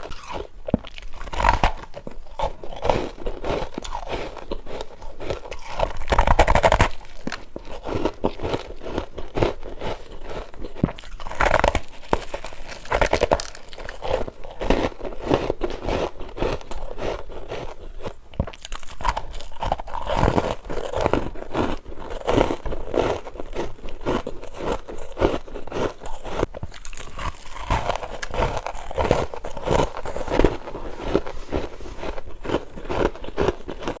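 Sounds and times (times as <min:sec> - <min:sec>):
chewing ice: 0:00.0 - 0:34.0.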